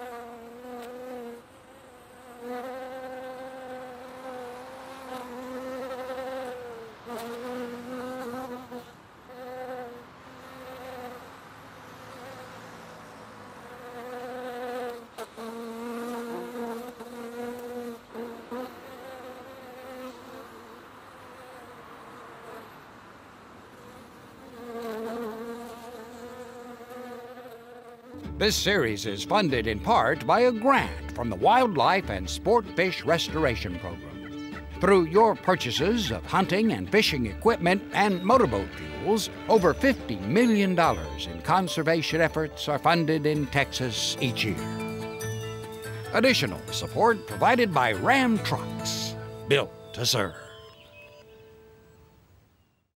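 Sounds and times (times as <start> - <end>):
bees buzzing: 0.0 - 23.0, 23.7 - 51.1.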